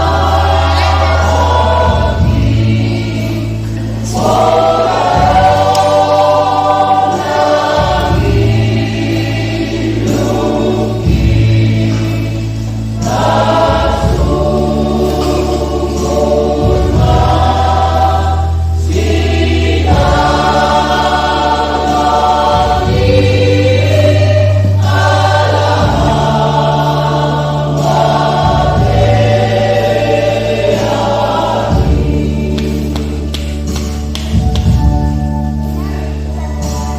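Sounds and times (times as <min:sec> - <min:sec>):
choir singing in parts: 0:00.0 - 0:36.9.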